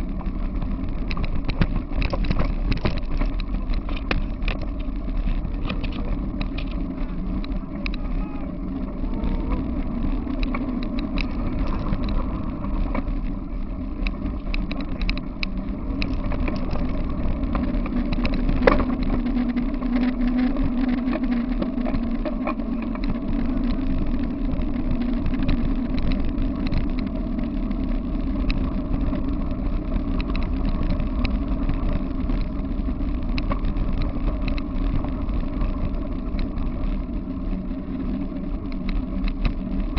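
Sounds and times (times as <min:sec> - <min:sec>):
tyres rolling over gravel: 0:00.0 - 0:39.9.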